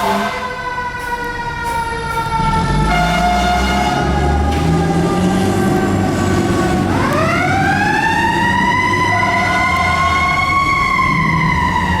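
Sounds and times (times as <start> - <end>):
fire engine siren wailing: 0.0 - 12.0
truck engine running: 0.0 - 12.0.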